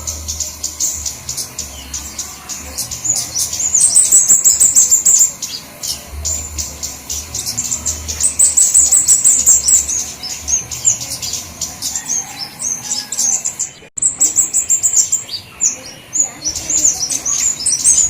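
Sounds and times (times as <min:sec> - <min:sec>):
high bird chirps: 0:00.0 - 0:18.0.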